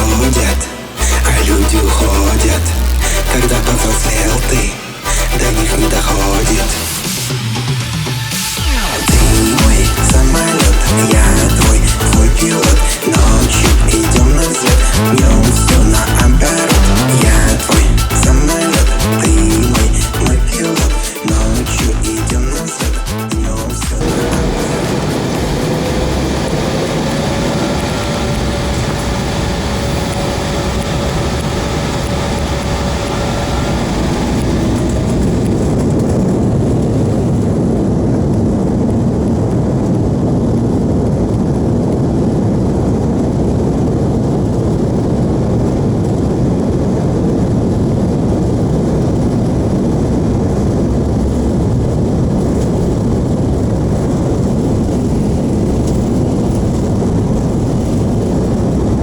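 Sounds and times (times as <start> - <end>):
deep engine rumble: 0.0 - 20.6, 21.3 - 59.0
jet engine whine: 0.0 - 59.0.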